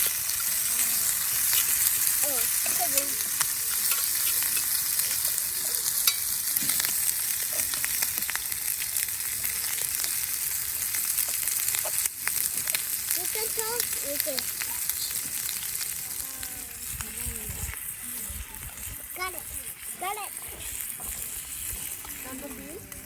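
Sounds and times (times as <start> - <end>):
food sizzling in a skillet: 0.0 - 23.0.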